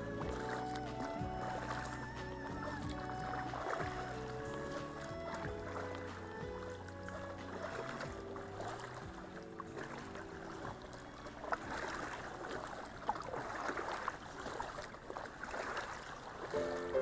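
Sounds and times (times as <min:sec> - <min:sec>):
paddle knocking on hull: 0:00.0 - 0:14.9
water splashing around kayak: 0:00.0 - 0:17.0.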